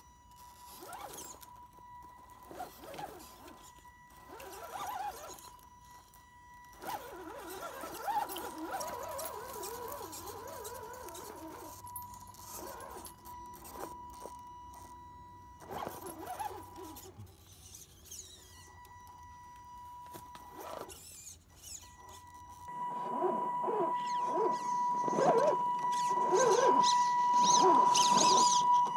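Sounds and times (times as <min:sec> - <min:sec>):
electric motor whining: 0:00.0 - 0:28.9
high electronic whine: 0:00.0 - 0:28.9.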